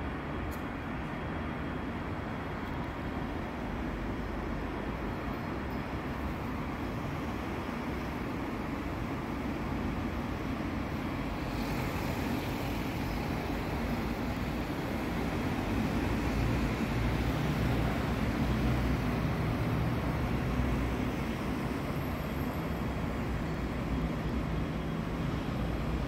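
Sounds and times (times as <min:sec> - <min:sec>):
city traffic rumble: 0:00.0 - 0:26.0.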